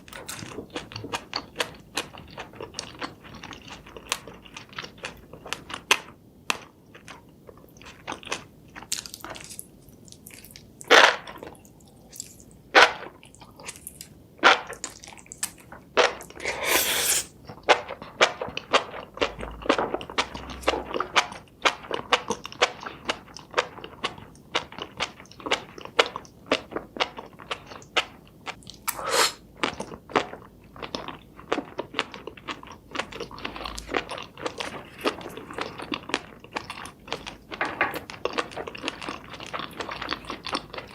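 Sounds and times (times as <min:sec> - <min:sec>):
chewing seafood with crunches: 0:00.0 - 0:16.6, 0:17.3 - 0:40.9.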